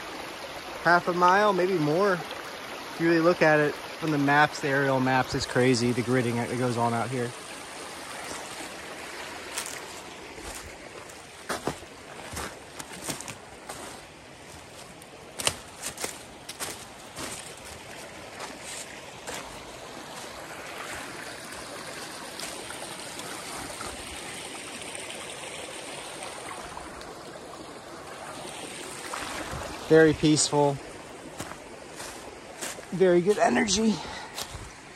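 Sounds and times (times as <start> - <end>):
stream trickling over stones: 0.0 - 34.9.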